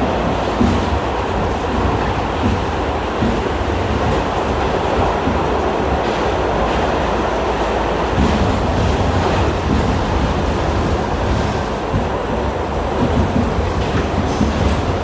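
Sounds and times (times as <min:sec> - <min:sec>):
subway train wheels on rails: 0:00.0 - 0:15.0.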